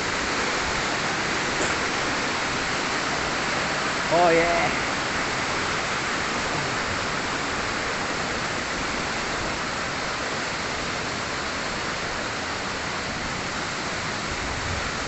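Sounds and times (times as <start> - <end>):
waterfall rushing and splashing: 0.0 - 15.0.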